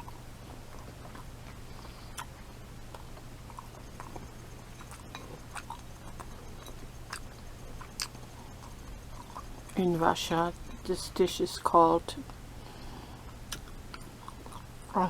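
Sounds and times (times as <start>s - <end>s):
chewing crunchy food: 0.0s - 11.0s, 12.2s - 15.0s
steady low hum: 0.0s - 15.0s.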